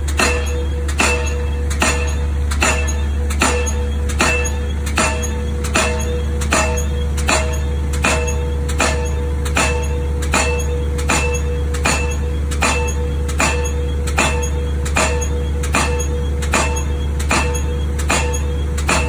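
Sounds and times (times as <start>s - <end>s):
pile hammer metallic clangs: 0.0s - 19.0s
steady low drone: 0.0s - 19.0s.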